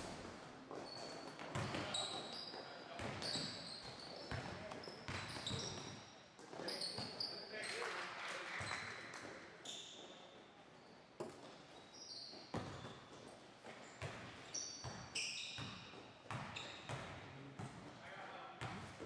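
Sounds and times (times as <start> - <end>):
sneaker squeaks: 0.1 - 7.8, 8.6 - 17.3.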